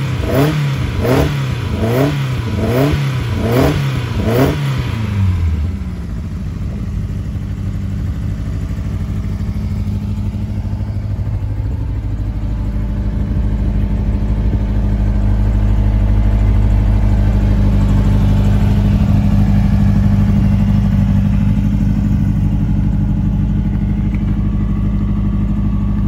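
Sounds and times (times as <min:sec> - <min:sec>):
race car engine idling: 0:00.0 - 0:26.0.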